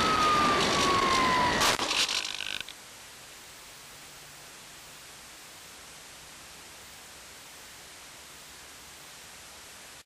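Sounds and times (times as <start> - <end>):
static hiss: 0.0 - 10.0.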